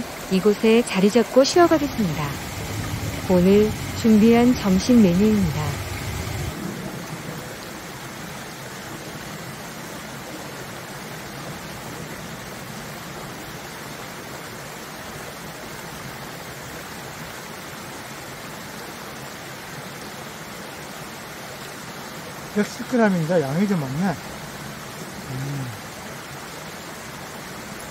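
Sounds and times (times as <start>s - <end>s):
stream rushing over rocks: 0.0s - 27.9s.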